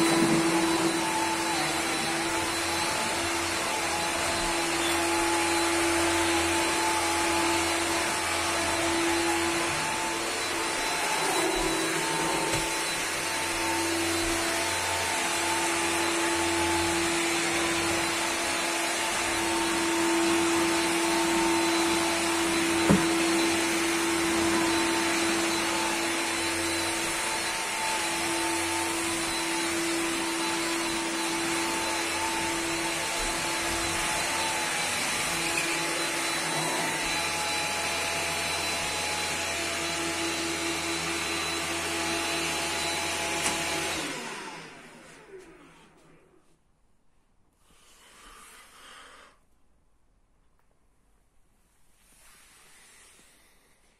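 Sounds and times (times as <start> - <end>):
stick vacuum running: 0.0 - 46.0.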